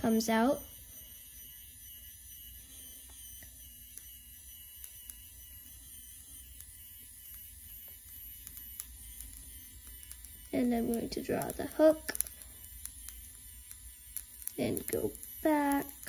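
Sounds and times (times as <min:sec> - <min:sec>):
small motor whirring: 0:00.0 - 0:16.0.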